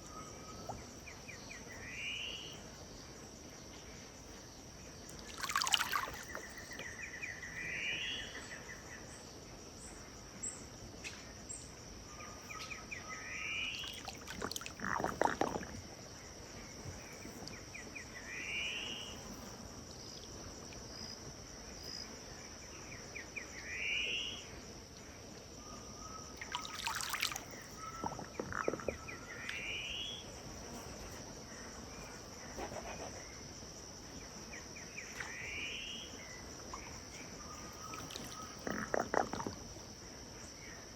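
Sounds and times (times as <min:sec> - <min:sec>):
crickets droning: 0:00.0 - 0:40.9.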